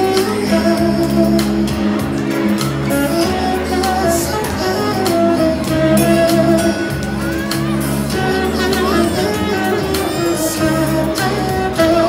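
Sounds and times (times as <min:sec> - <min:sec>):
bass line: 0:00.0 - 0:12.0
live band playing: 0:00.0 - 0:12.0.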